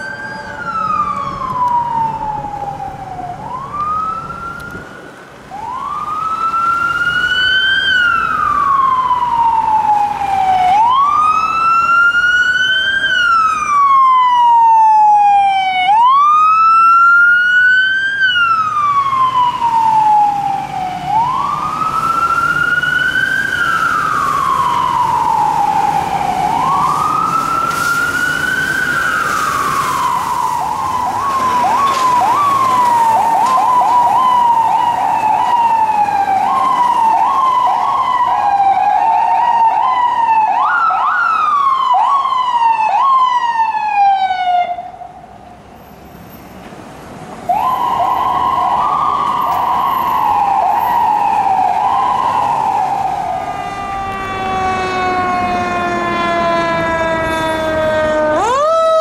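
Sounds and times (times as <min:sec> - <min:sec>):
siren wailing: 0:00.0 - 0:45.3, 0:47.5 - 0:59.0
siren yelps: 0:00.0 - 0:45.3, 0:47.5 - 0:59.0.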